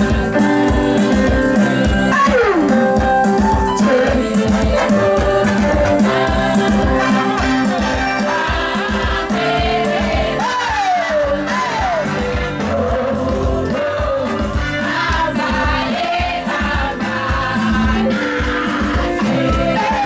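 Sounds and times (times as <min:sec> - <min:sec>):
steady drum beat: 0:00.0 - 0:20.0
upbeat worship music with singing: 0:00.0 - 0:20.0.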